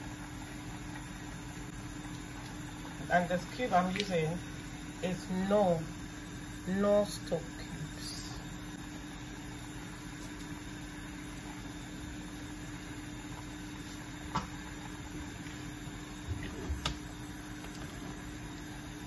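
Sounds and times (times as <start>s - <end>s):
gas burner hum and hiss: 0.0s - 19.0s.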